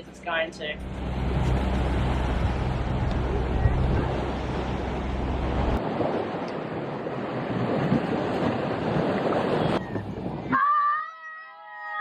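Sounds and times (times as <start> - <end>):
wind and sea rushing: 0.0 - 10.9
wind buffeting microphone: 0.8 - 10.6.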